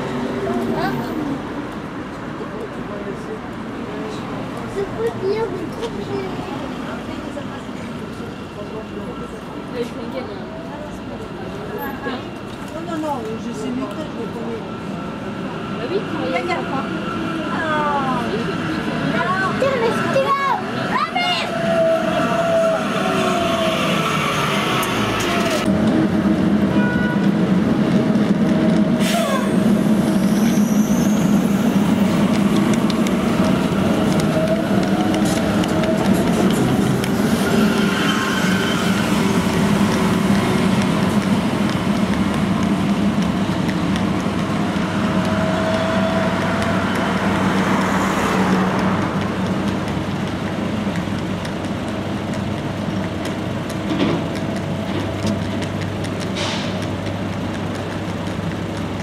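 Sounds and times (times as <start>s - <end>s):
tram electric hum: 0.0s - 59.0s.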